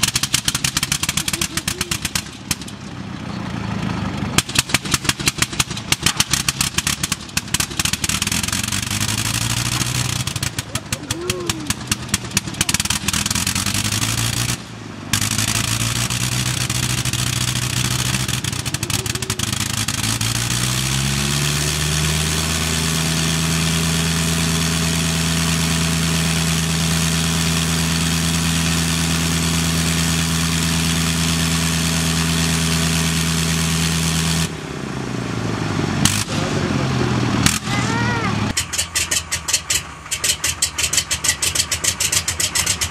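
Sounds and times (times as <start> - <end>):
aircraft rotary engine running: 0.0 - 42.9.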